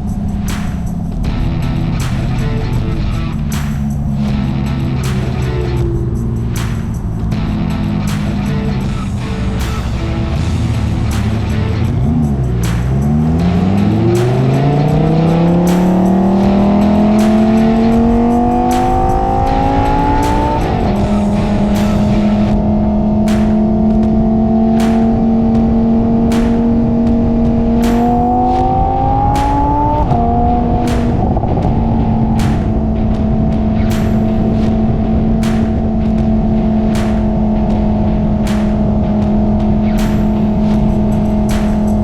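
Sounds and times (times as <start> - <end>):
background music with beat: 0.0 - 42.0
car engine accelerating: 0.0 - 42.0.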